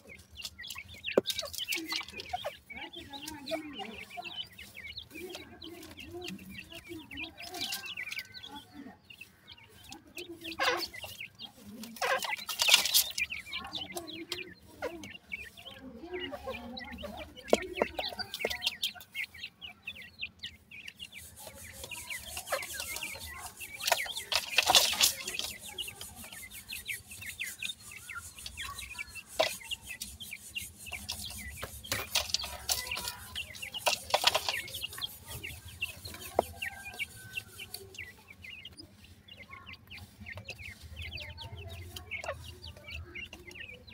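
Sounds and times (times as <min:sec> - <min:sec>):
young birds chirping: 0:00.0 - 0:43.9.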